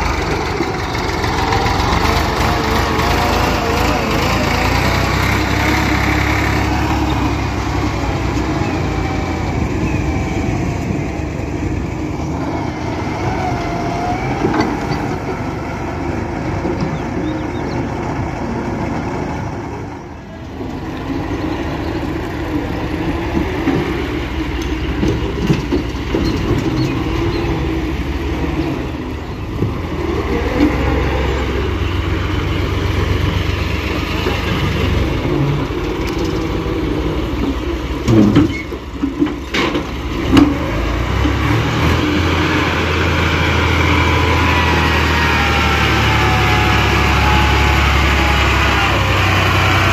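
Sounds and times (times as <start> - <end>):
excavator working: 0.0 - 49.9
tractor diesel engine: 0.0 - 49.9.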